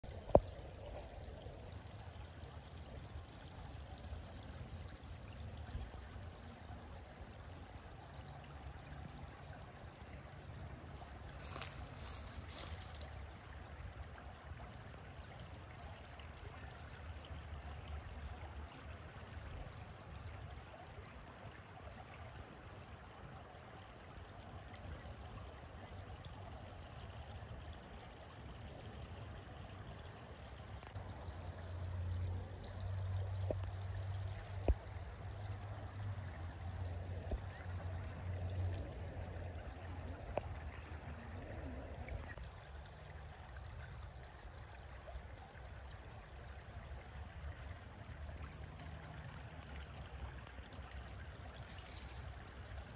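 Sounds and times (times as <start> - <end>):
creek water flowing over stones: 0.0 - 52.9.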